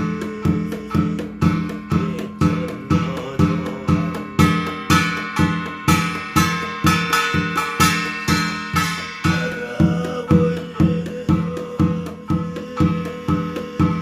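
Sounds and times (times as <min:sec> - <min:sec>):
drum beating steady rhythm: 0:00.0 - 0:14.0.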